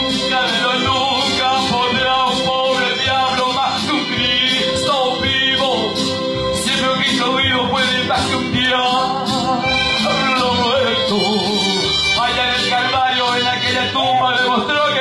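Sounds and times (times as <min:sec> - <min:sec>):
music with steady beat: 0:00.0 - 0:15.0
man singing through a pa: 0:00.1 - 0:15.0.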